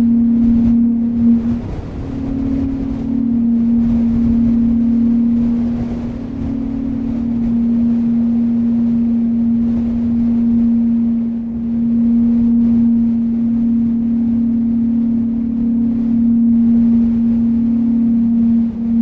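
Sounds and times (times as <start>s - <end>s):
steady low hum: 0.0s - 19.0s
wind rumbling in gusts: 0.0s - 19.0s.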